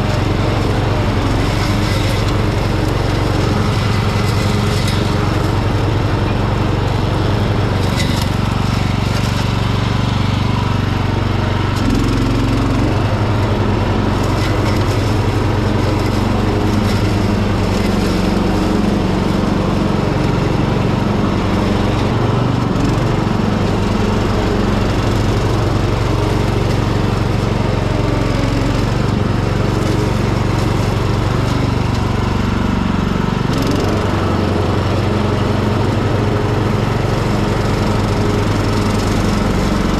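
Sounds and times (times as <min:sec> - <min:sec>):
mower deck cutting grass: 0:00.0 - 0:39.9
ride-on mower engine running: 0:00.0 - 0:39.9.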